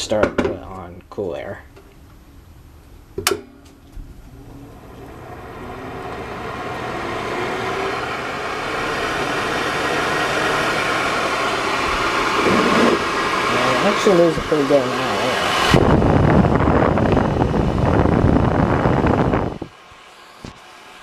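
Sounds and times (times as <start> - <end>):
hair dryer fan whirring: 3.3 - 21.0.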